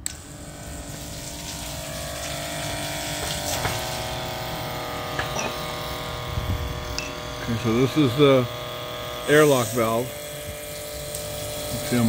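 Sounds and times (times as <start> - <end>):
water pump motor hum: 0.0 - 12.0.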